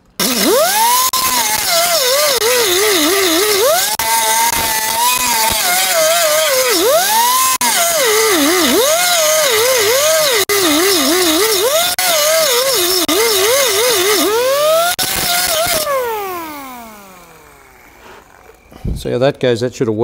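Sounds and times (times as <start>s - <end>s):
grinder cutting metal: 0.0s - 18.7s
grinder winding down: 0.0s - 18.8s.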